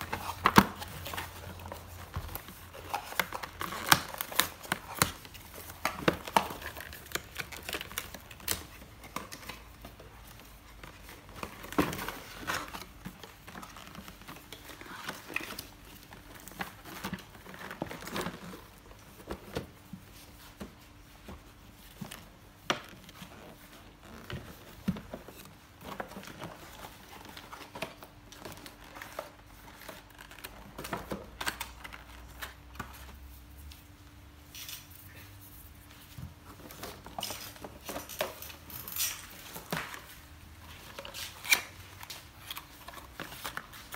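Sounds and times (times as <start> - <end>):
paper and cardboard rustling: 0.0 - 43.9.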